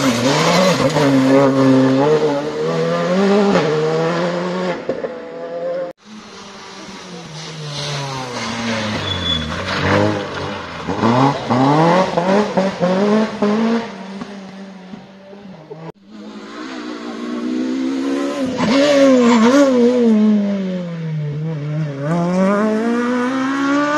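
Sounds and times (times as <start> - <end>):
rally car engine accelerating: 0.0 - 23.9.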